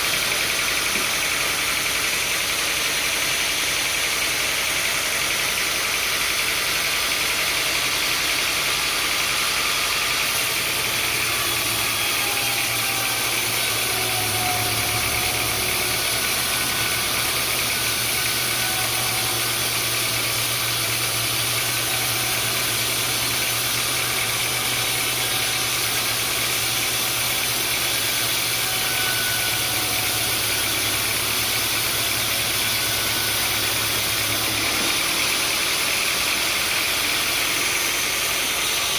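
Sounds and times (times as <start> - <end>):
sawmill machinery hum: 0.0 - 38.9.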